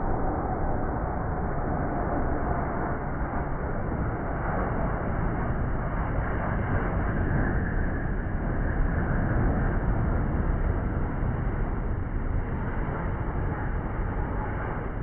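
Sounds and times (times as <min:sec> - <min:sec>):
jet airliner engines rumbling: 0:00.0 - 0:15.0
wind buffeting microphone: 0:00.0 - 0:15.0.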